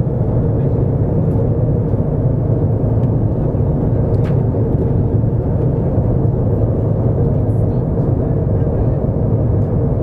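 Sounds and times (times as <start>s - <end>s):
jet airliner cabin rumble: 0.0s - 10.0s.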